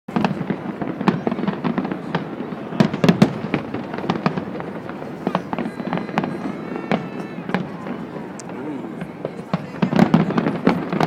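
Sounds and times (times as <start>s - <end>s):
fireworks cracking: 0.1s - 11.0s.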